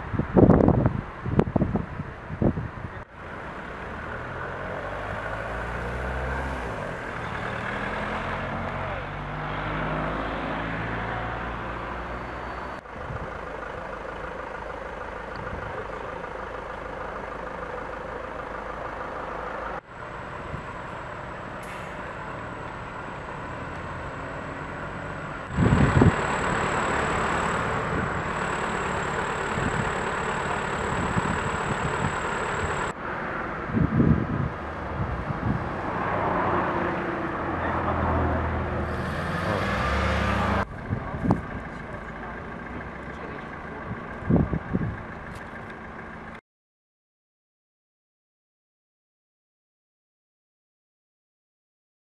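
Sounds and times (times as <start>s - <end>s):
vehicle engines idling in traffic: 0.0s - 46.4s.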